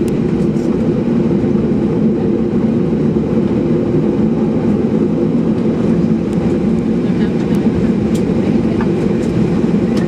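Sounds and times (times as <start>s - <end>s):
airplane cabin drone: 0.0s - 10.0s.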